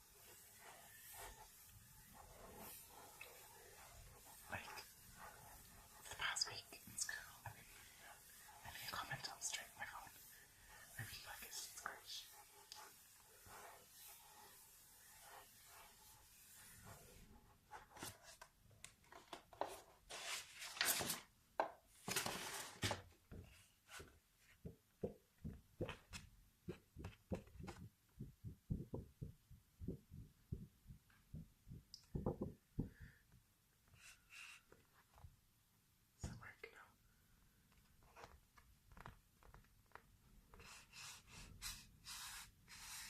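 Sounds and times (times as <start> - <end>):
rubbing and crinkling: 0.0 - 32.5, 37.7 - 43.0.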